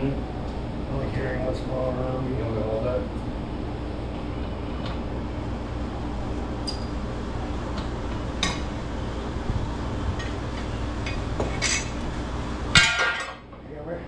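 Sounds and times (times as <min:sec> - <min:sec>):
low hum of fans: 0:00.0 - 0:14.0.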